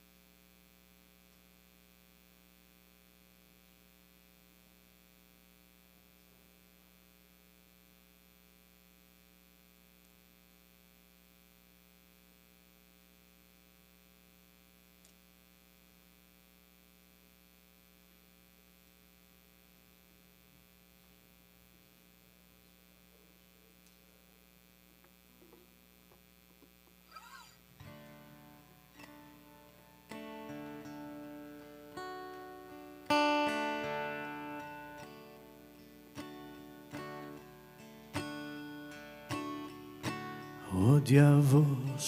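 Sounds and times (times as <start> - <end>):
electrical mains hum: 0.0 - 42.0.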